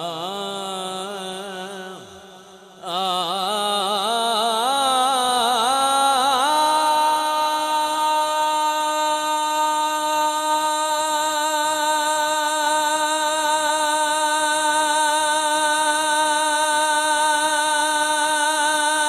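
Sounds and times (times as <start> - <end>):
man singing a long note: 0.0 - 19.0.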